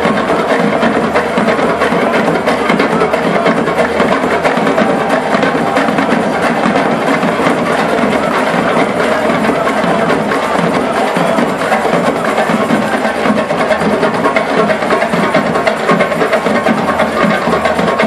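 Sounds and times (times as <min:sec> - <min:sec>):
hand drums drumming: 0:00.0 - 0:18.0.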